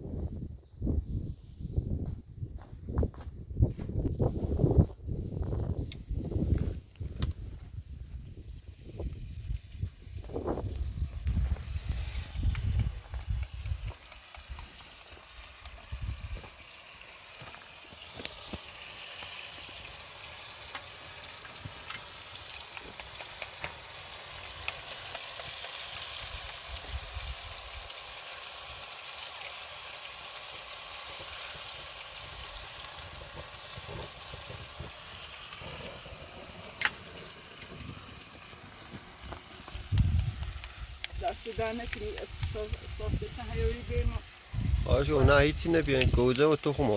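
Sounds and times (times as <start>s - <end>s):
food sizzling in hot oil: 8.3s - 46.9s.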